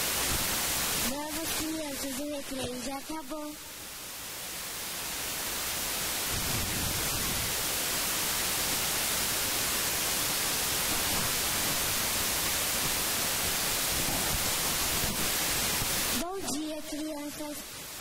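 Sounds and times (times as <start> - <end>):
steady static hiss: 0.0 - 18.0.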